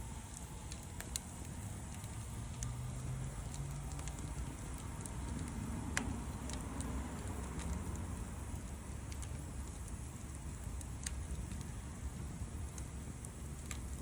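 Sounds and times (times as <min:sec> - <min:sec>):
low steady rumble: 0:00.0 - 0:14.0
wood fire crackling and popping: 0:00.0 - 0:14.0.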